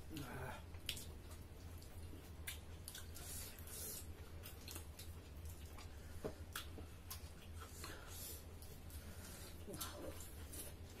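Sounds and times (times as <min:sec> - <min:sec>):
low steady hum: 0:00.0 - 0:11.0
people chewing: 0:00.0 - 0:11.0.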